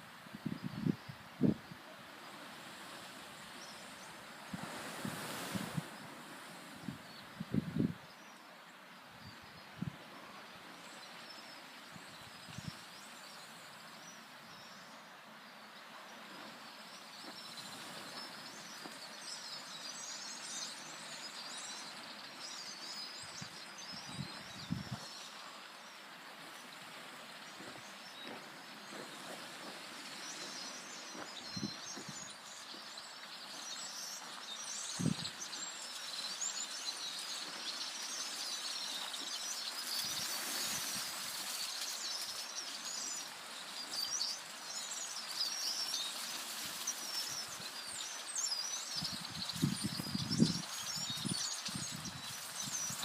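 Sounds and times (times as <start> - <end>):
small birds chirping: 9.2 - 53.0.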